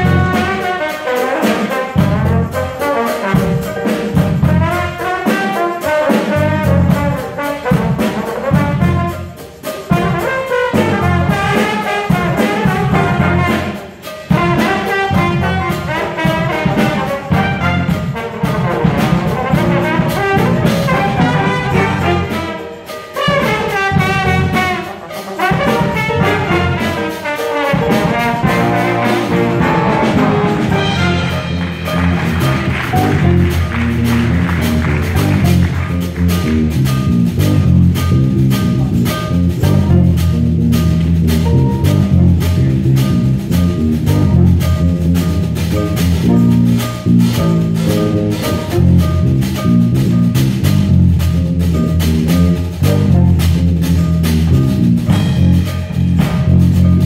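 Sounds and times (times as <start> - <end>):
jazz band playing: 0.0 - 57.0
trombone solo: 0.0 - 57.0.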